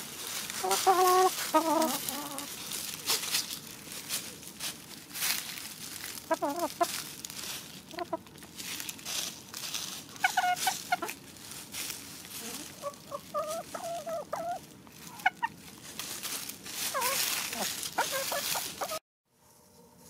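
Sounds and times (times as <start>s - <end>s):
hens clucking: 0.0s - 19.0s
dry leaves crackling: 0.0s - 19.6s.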